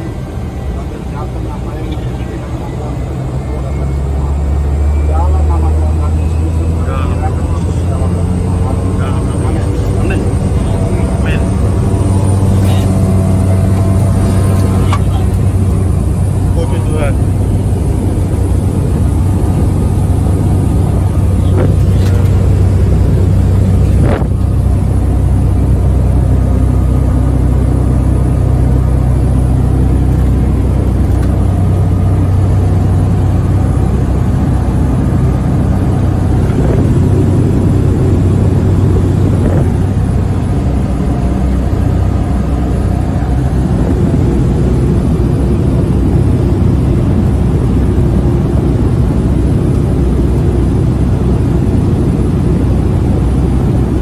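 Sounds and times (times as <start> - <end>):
aircraft engine and propeller droning: 0.0 - 54.0.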